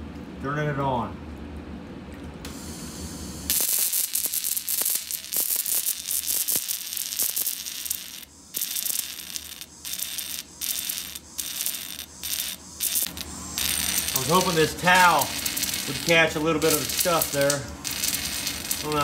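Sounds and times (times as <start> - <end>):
electrode sparking crackle: 3.5 - 19.0.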